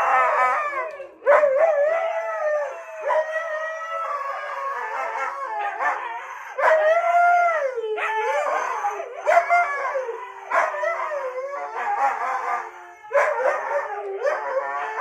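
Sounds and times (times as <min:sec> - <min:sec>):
huskies howling: 0:00.0 - 0:15.0.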